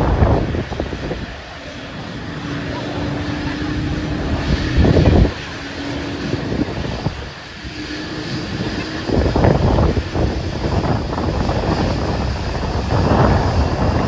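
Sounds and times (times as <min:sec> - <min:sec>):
jet engines humming: 0:00.0 - 0:14.0
noisy rumble: 0:00.0 - 0:14.0
wind buffeting microphone: 0:00.0 - 0:14.0.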